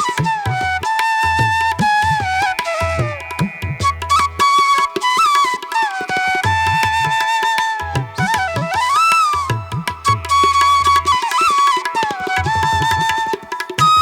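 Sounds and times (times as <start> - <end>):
flute melody: 0.0 - 14.0
tabla rhythm: 0.0 - 14.0.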